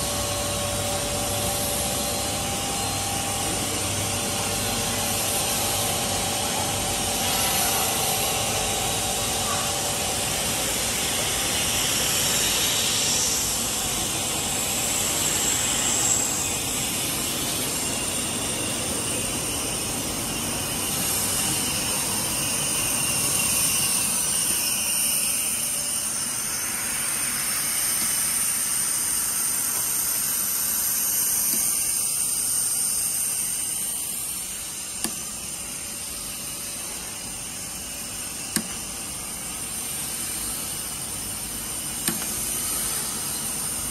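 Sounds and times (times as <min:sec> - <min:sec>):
hissing machine noise: 0:00.0 - 0:43.9.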